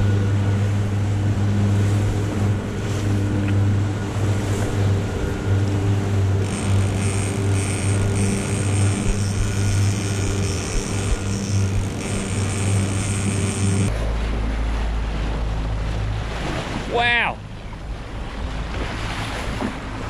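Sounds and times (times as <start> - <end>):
water rushing and splashing: 0.0 - 12.1, 13.8 - 20.0
outboard motor running: 0.0 - 20.0.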